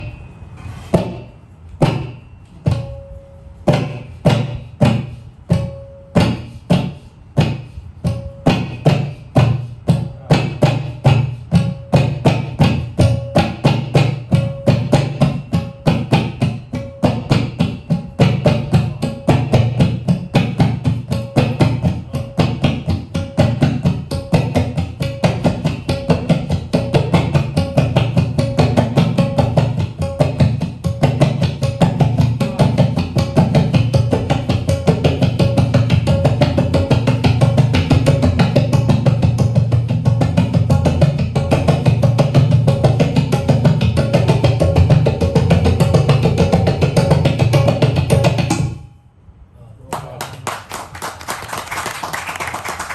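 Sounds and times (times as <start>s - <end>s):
tabla drumming: 0.0s - 49.0s, 50.2s - 52.9s.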